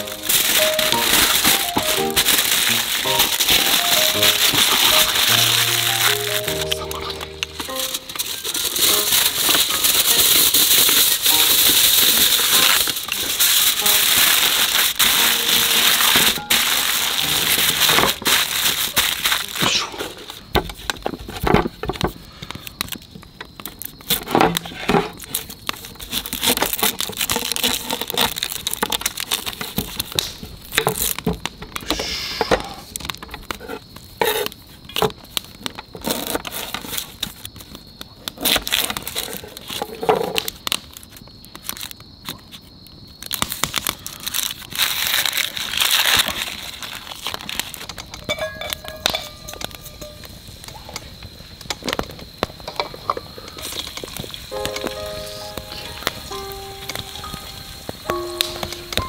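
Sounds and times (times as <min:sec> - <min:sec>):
onion skin crinkling: 0:00.0 - 0:31.9, 0:32.8 - 0:51.0.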